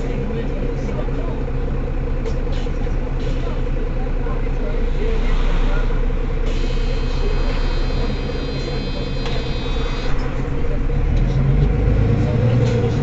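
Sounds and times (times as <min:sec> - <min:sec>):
bus diesel engine idling: 0:00.0 - 0:13.0.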